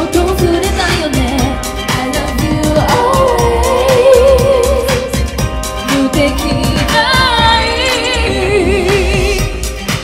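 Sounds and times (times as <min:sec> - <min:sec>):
live pop band with drum beat: 0:00.0 - 0:10.0
woman singing: 0:00.0 - 0:10.0.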